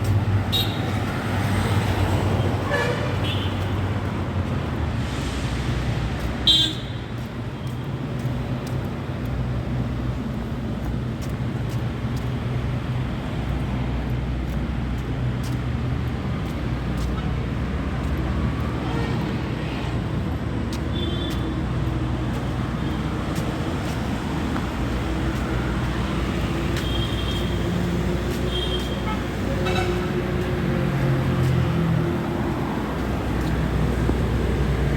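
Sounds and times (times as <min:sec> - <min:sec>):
vehicles passing close by: 0:00.0 - 0:34.9.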